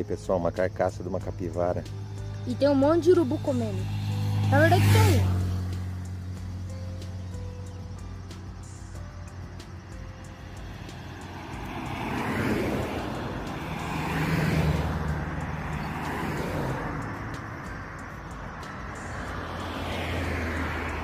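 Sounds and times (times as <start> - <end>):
cars passing: 0.0 - 21.0.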